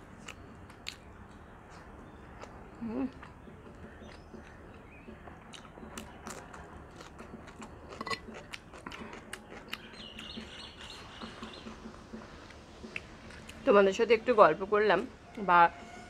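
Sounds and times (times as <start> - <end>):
chewing and lip smacks: 0.2 - 13.6.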